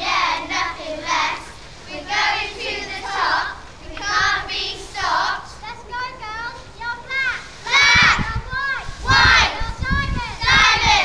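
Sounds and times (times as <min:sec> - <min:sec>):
girls shouting a cheer chant: 0:00.0 - 0:11.0.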